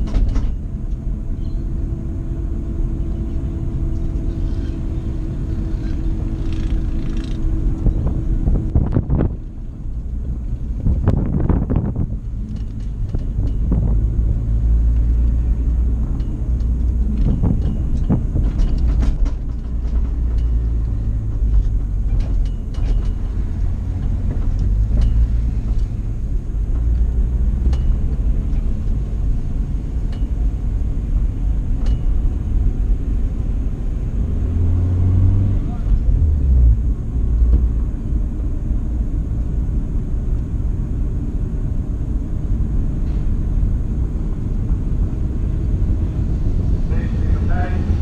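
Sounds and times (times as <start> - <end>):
car engine rumbling at low revs: 0.0 - 48.0.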